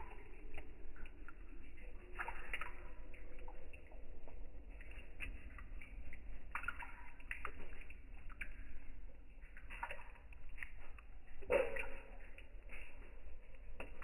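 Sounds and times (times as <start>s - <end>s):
water dripping: 0.0s - 14.0s.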